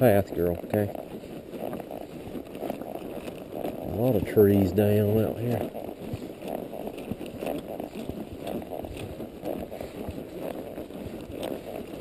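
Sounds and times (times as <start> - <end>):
horse hooves walking: 0.0 - 12.0.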